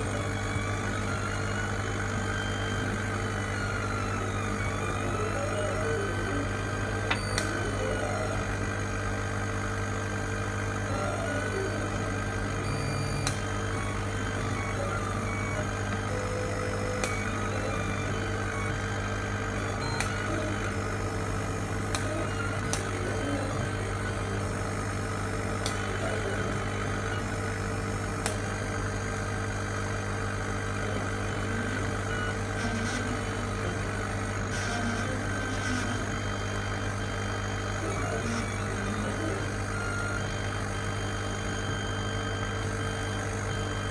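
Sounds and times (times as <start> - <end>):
laser cutter mechanical hum: 0.0 - 43.9.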